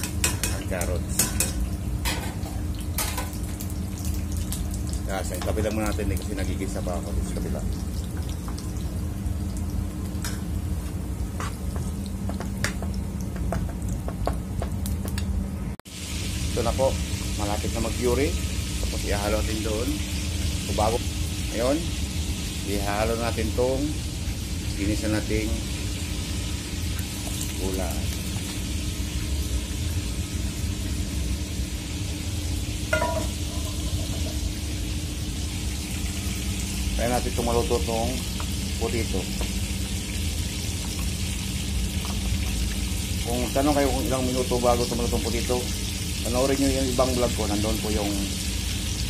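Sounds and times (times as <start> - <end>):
vegetables sizzling in a frying pan: 0.0 - 11.2, 15.9 - 49.0
steady low hum: 0.0 - 47.4
low stove rumble: 0.0 - 49.0.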